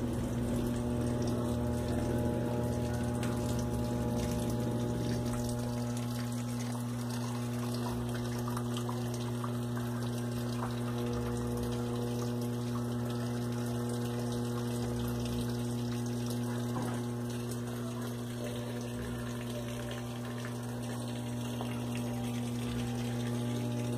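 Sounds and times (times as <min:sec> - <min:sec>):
drain pump humming: 0:00.0 - 0:23.9.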